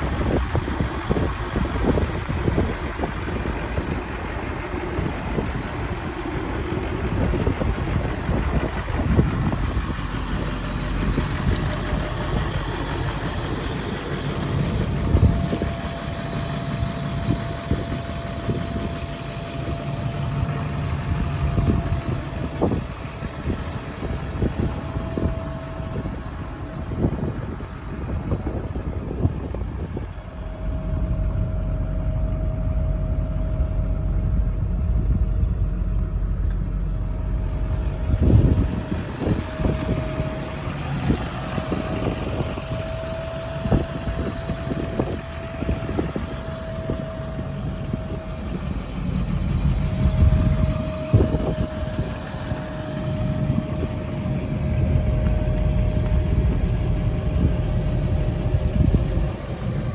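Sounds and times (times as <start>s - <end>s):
thin steady whine: 0.0s - 59.9s
wind buffeting microphone: 0.0s - 59.9s.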